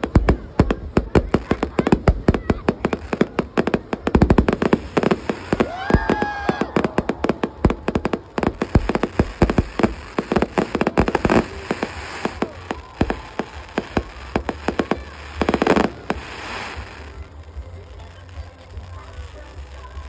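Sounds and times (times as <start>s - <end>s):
fireworks bangs: 0.0s - 17.7s
fireworks crackling: 0.0s - 20.0s.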